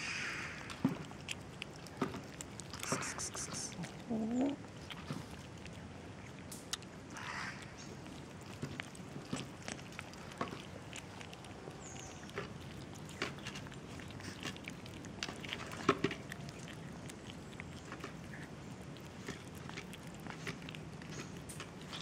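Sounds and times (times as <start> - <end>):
kittens crunching dry food: 0.0 - 22.0.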